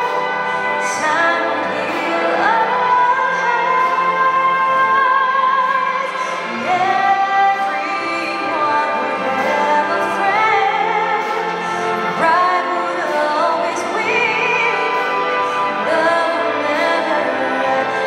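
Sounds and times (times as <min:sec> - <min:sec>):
symphony orchestra chords: 0:00.0 - 0:18.0.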